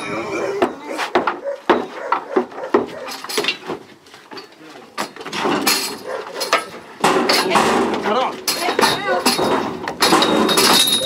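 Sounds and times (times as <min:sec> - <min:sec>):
knocks and clanks of steel cattle crush: 0:00.0 - 0:11.0.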